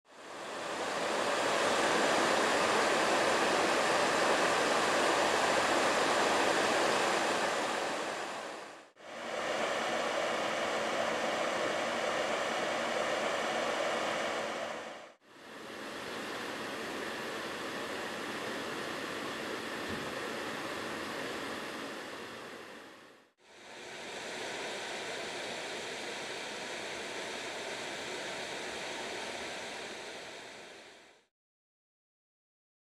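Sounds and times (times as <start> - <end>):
fan whooshing: 0.1 - 31.2.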